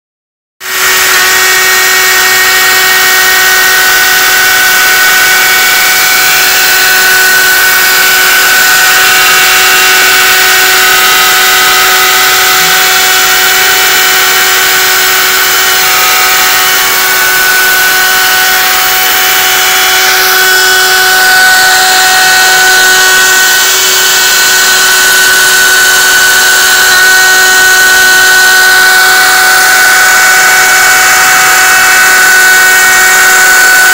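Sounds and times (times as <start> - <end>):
router spindle milling metal: 0.6 - 33.9.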